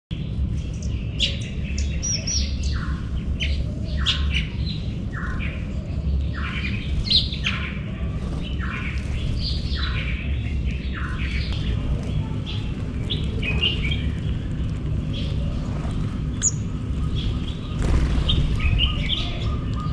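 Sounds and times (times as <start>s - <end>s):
small birds chirping and twittering: 0.1s - 19.9s
steady low hum: 0.1s - 19.9s.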